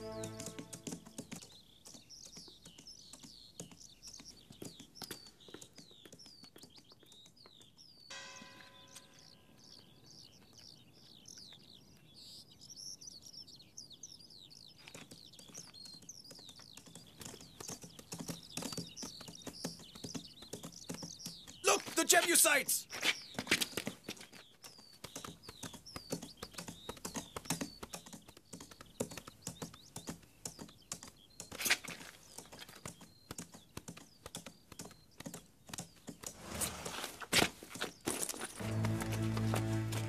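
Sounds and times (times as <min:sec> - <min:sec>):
horse hoofbeats: 0:00.0 - 0:11.4, 0:14.6 - 0:40.0
birds chirping: 0:00.0 - 0:40.0.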